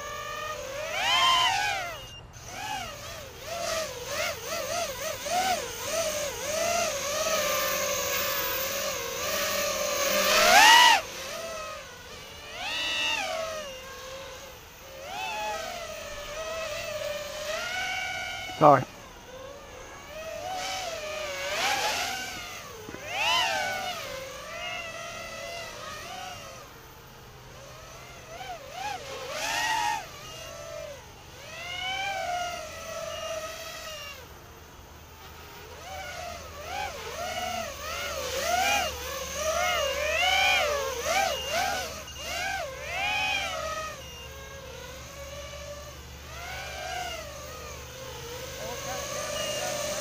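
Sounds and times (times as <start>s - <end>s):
drone motors whining in flight: 0.0s - 50.0s.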